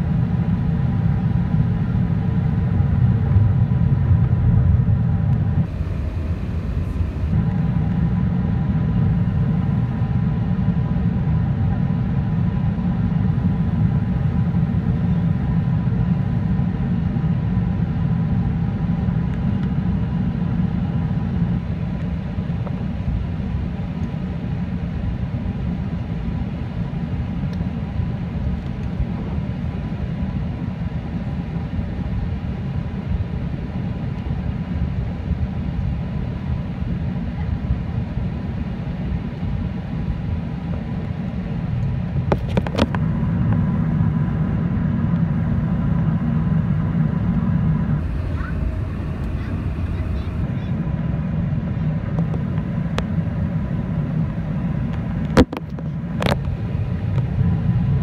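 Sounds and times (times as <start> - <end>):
airplane cabin engine rumble: 0.0 - 58.0
faint steady whine: 0.0 - 58.0.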